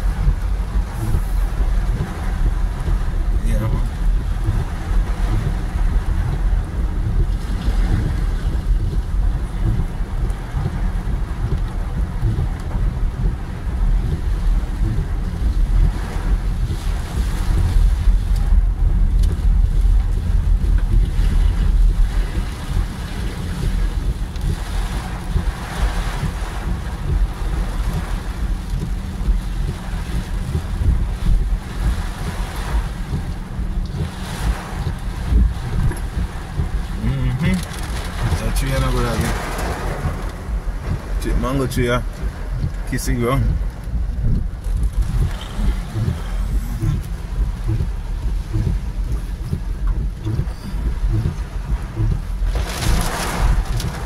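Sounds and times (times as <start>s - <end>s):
heavy rain on car: 0.0s - 54.0s
wind buffeting microphone: 0.0s - 54.0s.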